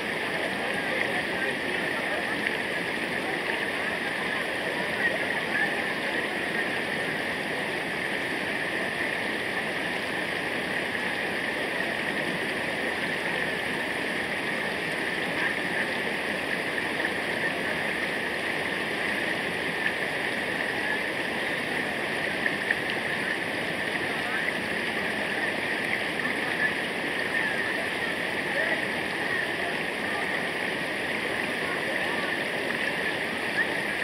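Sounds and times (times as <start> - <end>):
stream water rushing: 0.0 - 34.0.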